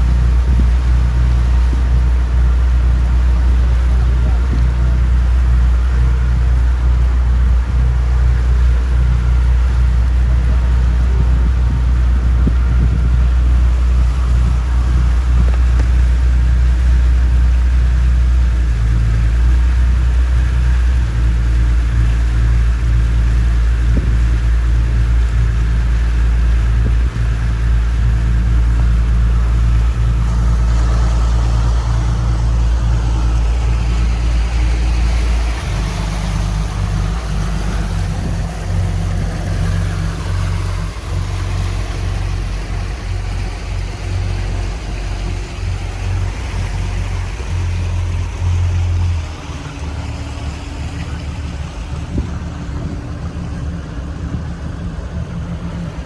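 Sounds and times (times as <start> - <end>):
boat engine droning: 0.0 - 56.0
wind and water hiss: 0.0 - 56.0.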